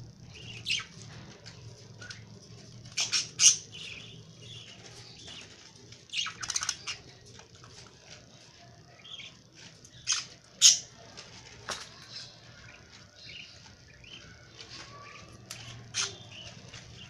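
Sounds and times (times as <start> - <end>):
baby birds chirping: 0.2 - 17.0.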